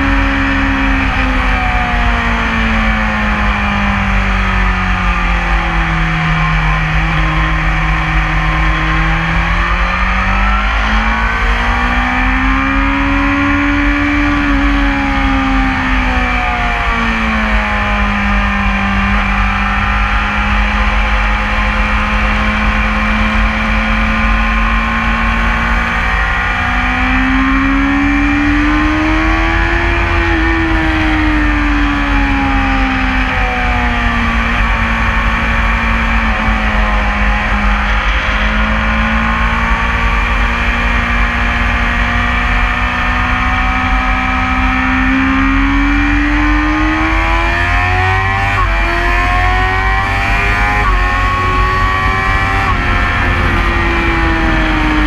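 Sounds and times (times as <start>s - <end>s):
wind rushing over microphone: 0.0s - 41.8s, 48.8s - 55.0s
motorcycle engine under load: 0.0s - 55.0s.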